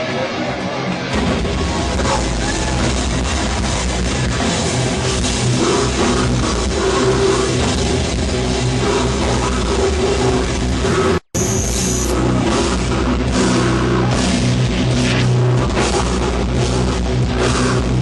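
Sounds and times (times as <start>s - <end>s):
distorted guitars and bass: 0.0s - 18.0s
fast dense drumming: 1.1s - 18.0s.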